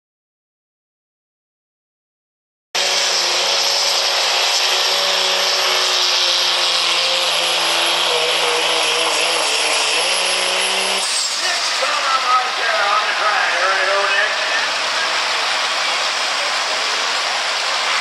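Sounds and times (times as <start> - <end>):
diesel engine at full load: 2.8 - 18.0.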